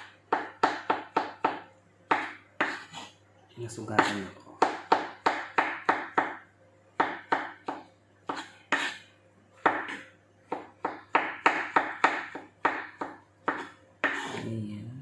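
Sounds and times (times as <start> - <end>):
knife chopping on cutting board: 0.0 - 3.2, 3.8 - 6.4, 7.0 - 14.5.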